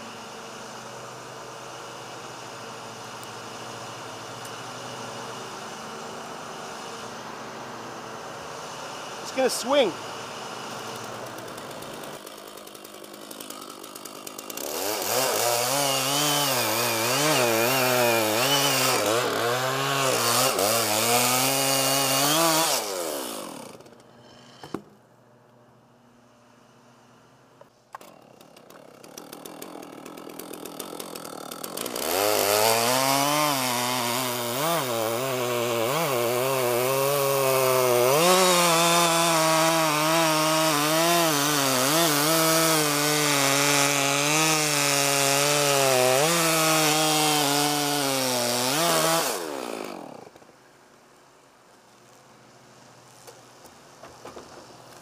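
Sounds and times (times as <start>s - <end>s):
chainsaw cutting wood: 0.0s - 24.9s, 27.9s - 50.5s.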